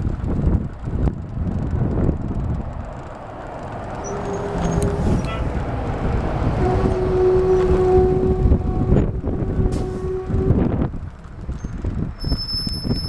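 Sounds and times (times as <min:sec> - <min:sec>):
wind and rolling rumble: 0:00.0 - 0:13.0.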